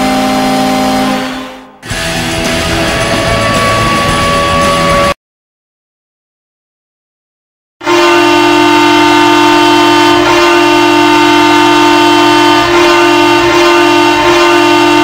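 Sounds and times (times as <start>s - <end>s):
goal horn blast: 0.0s - 5.2s, 7.8s - 15.0s.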